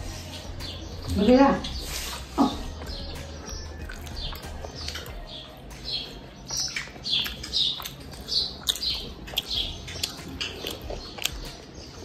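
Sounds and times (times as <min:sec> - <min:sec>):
person chewing: 0:02.0 - 0:12.0.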